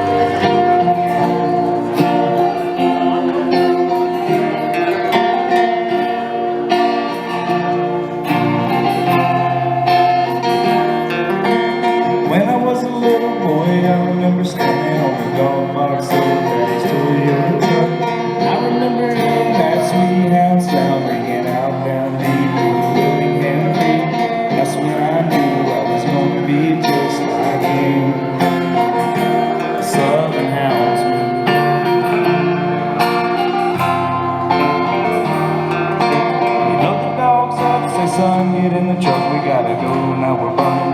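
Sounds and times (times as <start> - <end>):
live country music with guitars: 0.0 - 40.9.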